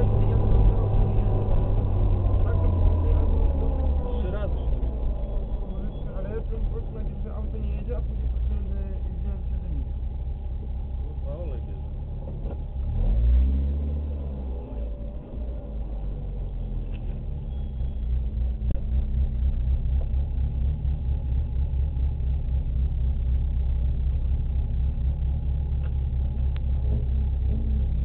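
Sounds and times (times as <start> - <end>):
car engine idling and pulling away: 0.0 - 28.0.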